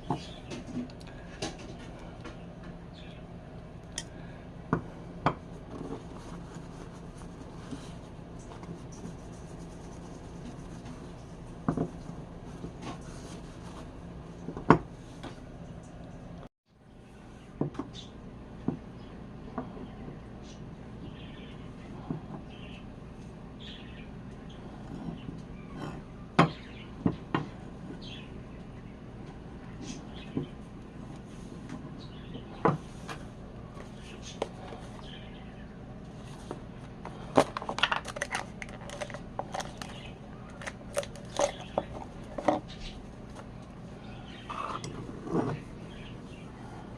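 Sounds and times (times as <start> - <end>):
steady background hum: 0.0 - 46.9.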